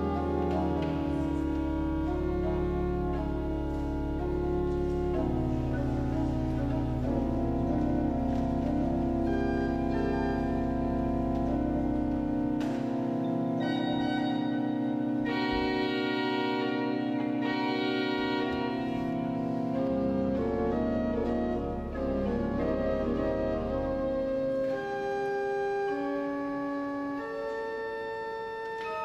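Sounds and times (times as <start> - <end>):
deep organ pedal note: 0.0 - 28.6
pipe organ chords: 0.0 - 29.0.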